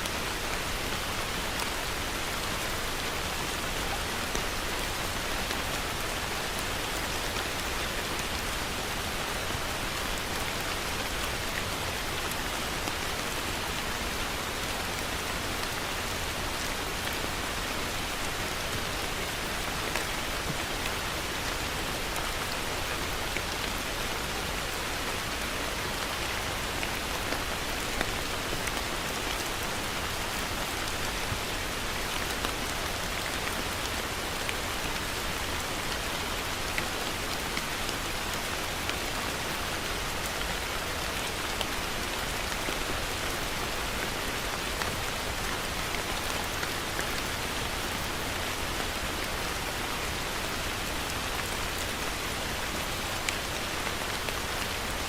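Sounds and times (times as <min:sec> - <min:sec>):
heavy rain falling on a surface: 0:00.0 - 0:55.0.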